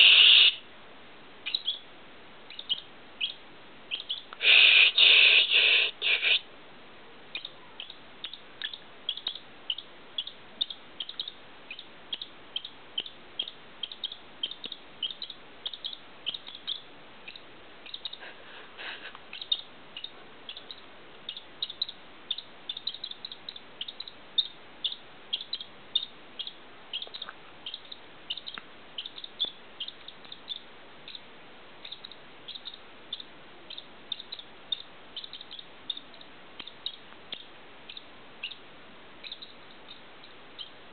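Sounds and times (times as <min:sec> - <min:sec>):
squirrel squeaking: 0:00.0 - 0:00.6, 0:01.4 - 0:01.9, 0:02.5 - 0:06.5, 0:07.3 - 0:18.2, 0:19.3 - 0:38.6, 0:39.2 - 0:40.8.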